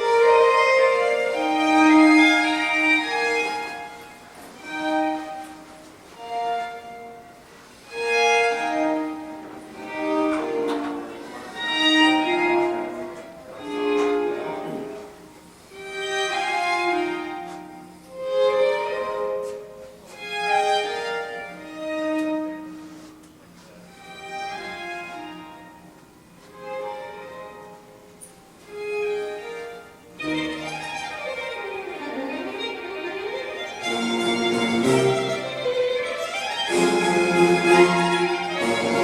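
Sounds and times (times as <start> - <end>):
recorded violin music: 0.0 - 39.0.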